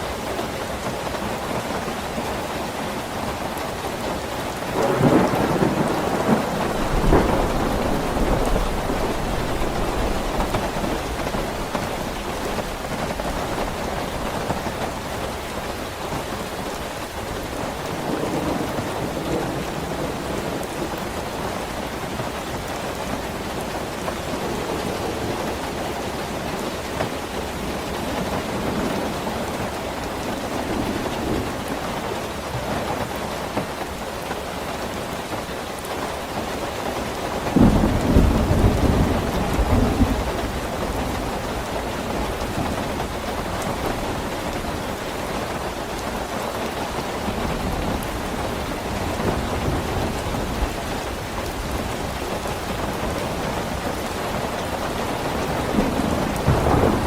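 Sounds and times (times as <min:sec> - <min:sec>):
heavy rain: 0:00.0 - 0:57.0
thunder rumbling: 0:04.4 - 0:31.8, 0:37.4 - 0:57.0.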